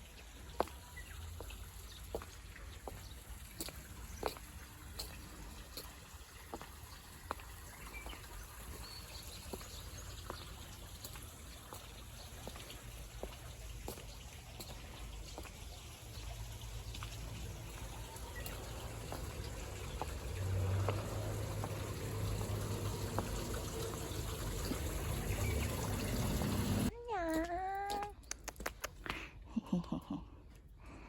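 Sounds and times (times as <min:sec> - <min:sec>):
trickle of running water: 0:00.0 - 0:26.9.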